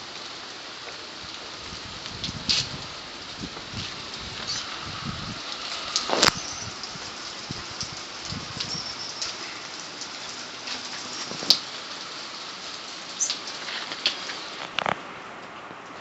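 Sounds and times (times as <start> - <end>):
steady rain: 0.0 - 16.0
ticks of raindrops: 0.0 - 16.0.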